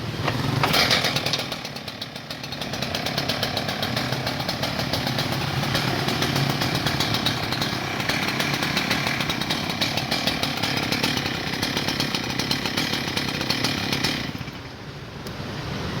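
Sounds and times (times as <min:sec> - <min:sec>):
cut-off saw engine running: 0:00.2 - 0:14.8.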